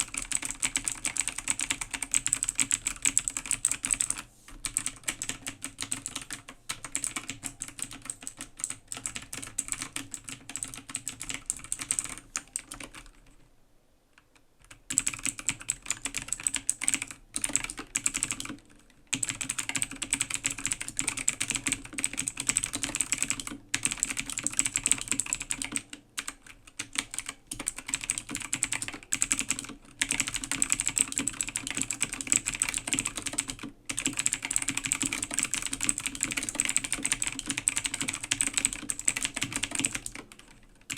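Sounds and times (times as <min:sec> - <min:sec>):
fast typing on mechanical keyboard: 0:00.0 - 0:13.4, 0:14.6 - 0:40.9.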